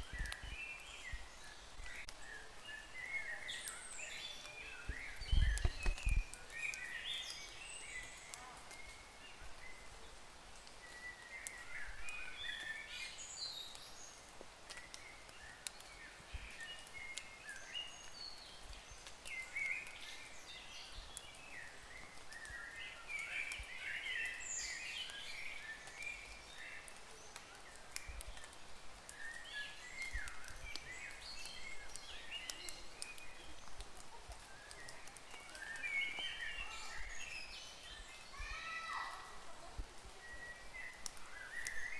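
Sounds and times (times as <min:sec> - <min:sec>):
faint outdoor hiss: 0:00.0 - 0:41.9.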